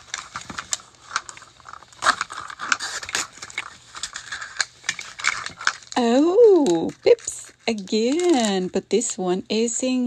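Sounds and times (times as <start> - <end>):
plastic wrapping crackling and tearing: 0.0 - 8.8.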